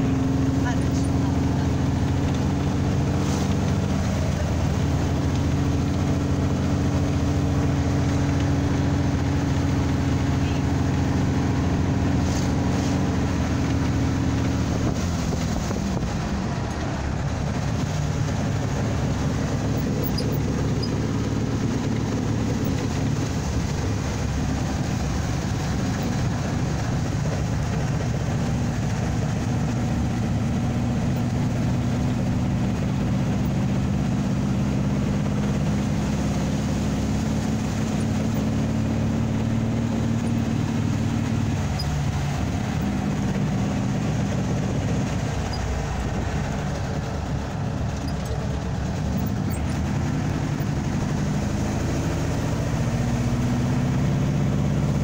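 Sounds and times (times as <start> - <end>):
dune buggy engine running: 0.0 - 55.0
wind and road noise: 0.0 - 55.0.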